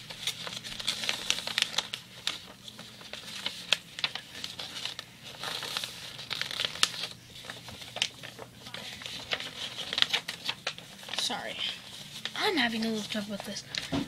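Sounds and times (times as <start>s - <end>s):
paper crinkling: 0.0s - 14.0s.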